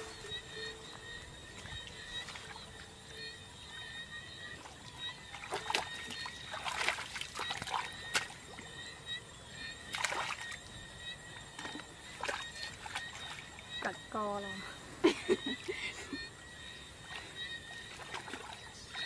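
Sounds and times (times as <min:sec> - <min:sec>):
muddy water splashing: 0:00.0 - 0:19.0.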